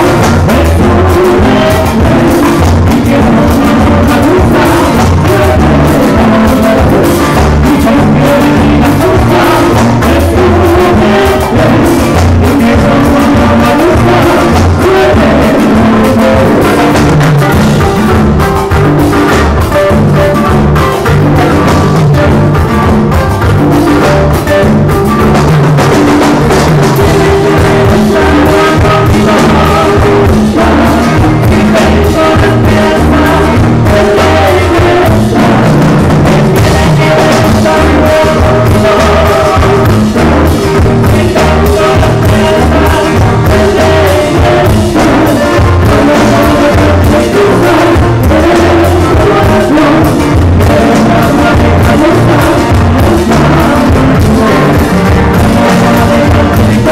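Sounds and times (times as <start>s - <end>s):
acoustic guitars: 0.0s - 56.9s
drum kit and timbales: 0.0s - 56.9s.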